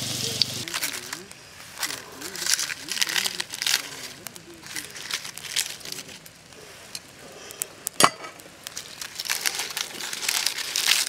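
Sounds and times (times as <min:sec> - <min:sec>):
dry leaves crinkling: 0:00.0 - 0:11.0.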